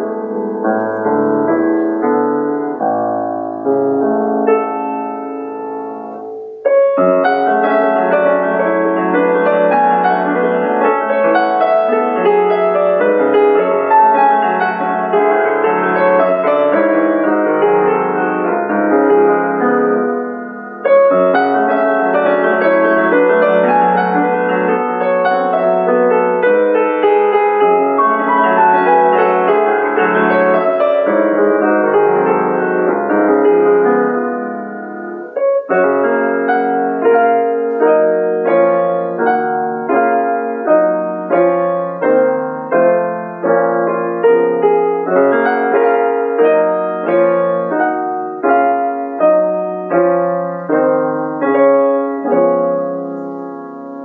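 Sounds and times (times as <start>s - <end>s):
solo piano classical passage: 0.0s - 54.0s.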